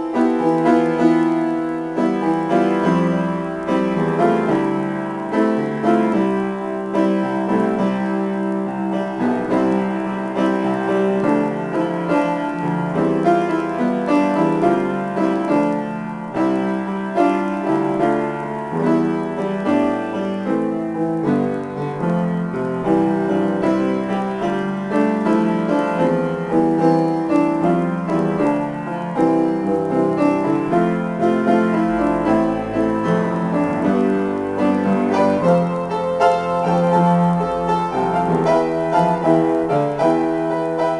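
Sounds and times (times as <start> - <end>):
grand piano improvisation: 0.0 - 40.9.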